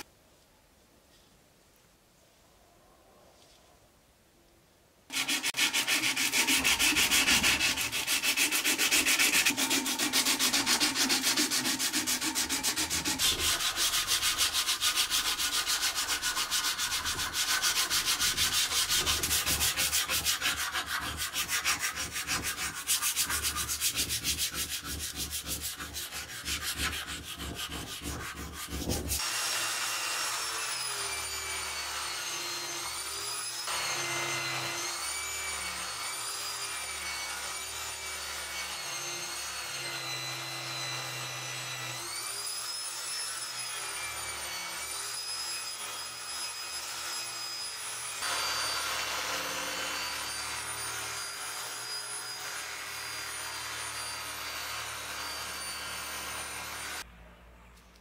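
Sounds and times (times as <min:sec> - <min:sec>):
angle grinder whining: 0:05.1 - 0:23.9, 0:29.1 - 0:57.0
sanding and filing steel: 0:05.1 - 0:57.0.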